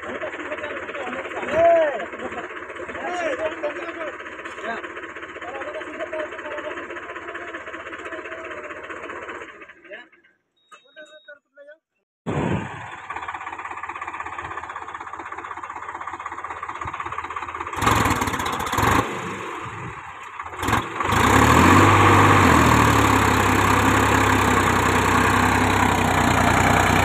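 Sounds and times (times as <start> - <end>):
tractor diesel engine revving: 0.0 - 9.9, 12.6 - 27.0.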